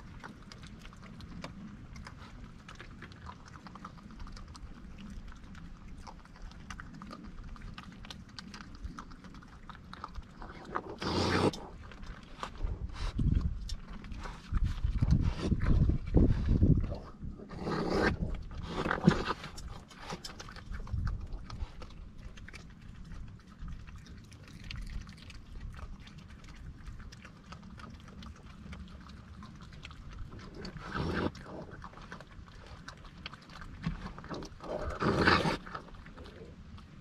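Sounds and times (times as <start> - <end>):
raccoon snuffling: 0.0 - 37.0
raccoons crunching and chewing: 0.0 - 37.0.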